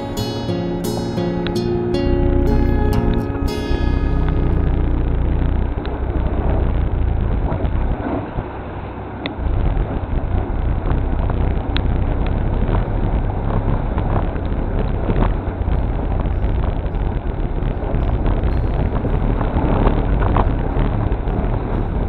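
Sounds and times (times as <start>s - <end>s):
vehicle engine and tyres rumbling: 1.6s - 22.0s
wind on microphone: 1.7s - 22.0s.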